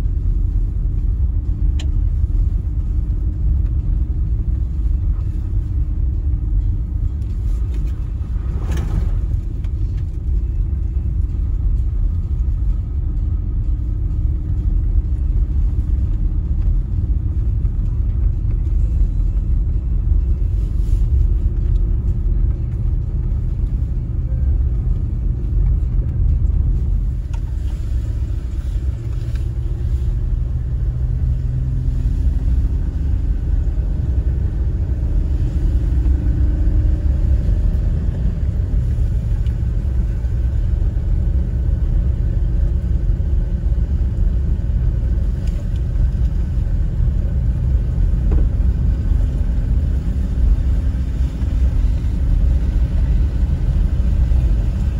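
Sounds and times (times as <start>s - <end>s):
tyres and engine rumbling: 0.0s - 54.9s.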